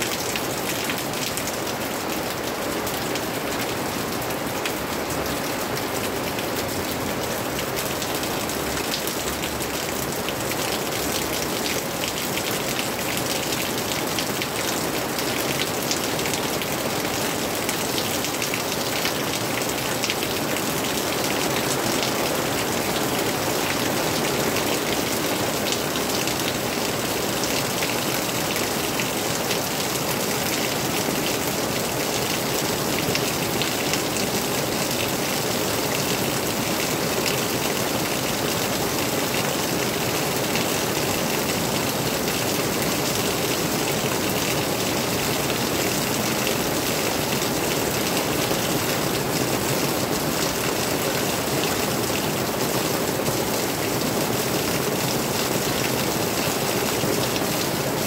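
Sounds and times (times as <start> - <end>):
rain on tarp and leaves: 0.0 - 58.0.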